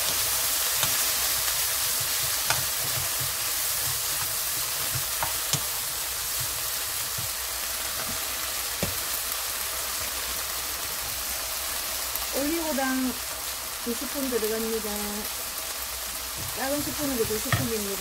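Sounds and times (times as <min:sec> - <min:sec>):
peppers sizzling in a frying pan: 0:00.0 - 0:18.0.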